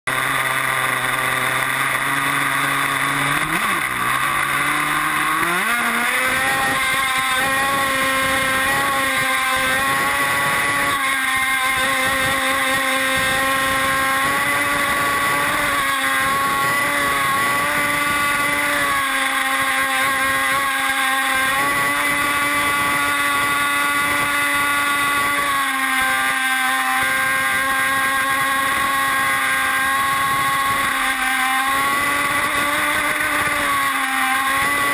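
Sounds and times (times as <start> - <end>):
small two-stroke engine revving: 0.1 - 34.9.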